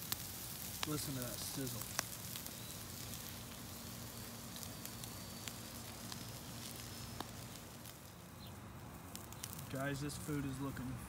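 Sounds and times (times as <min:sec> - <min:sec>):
fire crackling pops: 0:00.0 - 0:11.0
steaks sizzling on a grill: 0:00.0 - 0:11.0.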